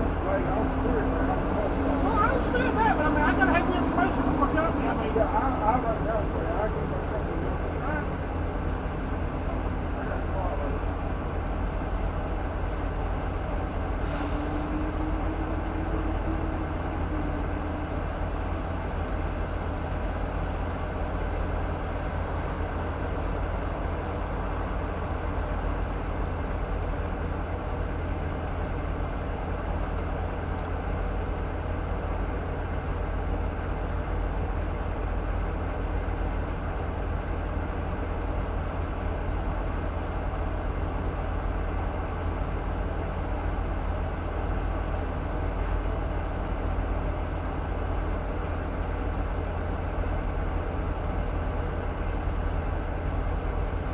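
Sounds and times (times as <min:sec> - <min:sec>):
vehicle engine idling: 0:00.0 - 0:53.9.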